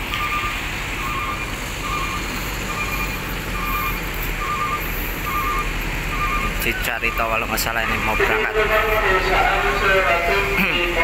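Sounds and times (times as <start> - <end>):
bus engines idling: 0.0 - 11.0
reversing alarm beeps: 0.1 - 9.5.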